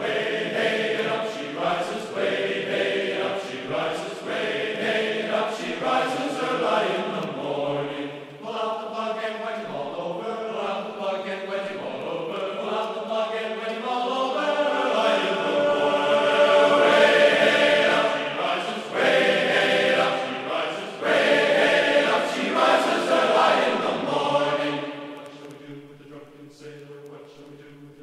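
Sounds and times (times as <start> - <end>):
choral singing: 0.0 - 28.0.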